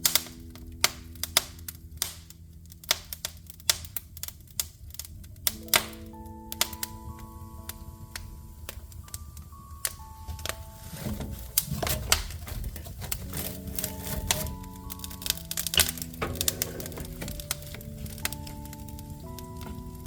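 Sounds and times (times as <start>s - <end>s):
soft background music: 0.0s - 20.0s
wood fire crackling: 0.0s - 20.0s.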